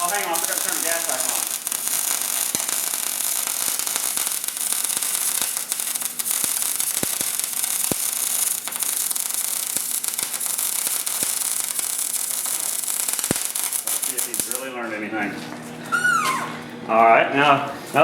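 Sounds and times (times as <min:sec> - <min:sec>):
sharp pops: 0:00.0 - 0:14.6
welding arc crackling: 0:00.0 - 0:14.8.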